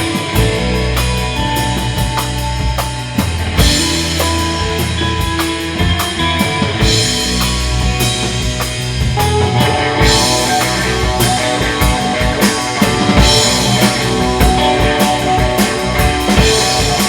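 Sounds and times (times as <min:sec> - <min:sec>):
bass guitar: 0:00.0 - 0:17.0
drum kit with cymbal crashes: 0:00.0 - 0:17.0
electric guitar: 0:00.0 - 0:17.0.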